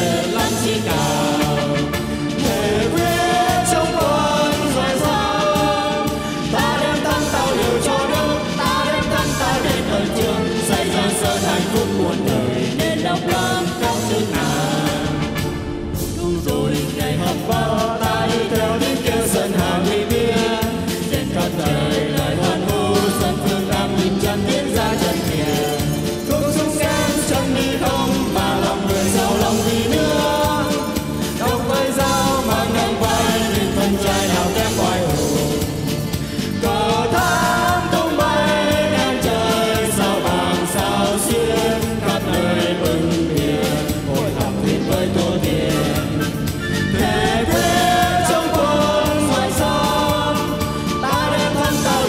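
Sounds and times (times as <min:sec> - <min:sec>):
accompanying music: 0:00.0 - 0:52.0
people singing into microphones: 0:00.0 - 0:52.0.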